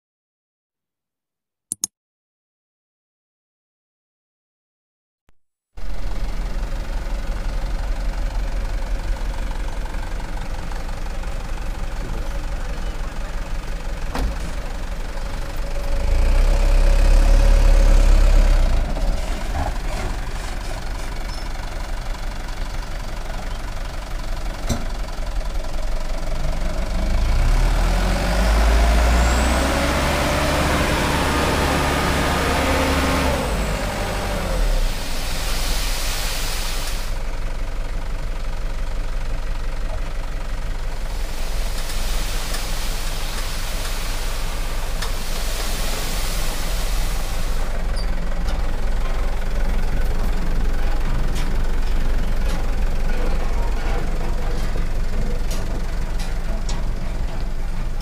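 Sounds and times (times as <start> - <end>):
diesel truck engine running: 5.8 - 58.0.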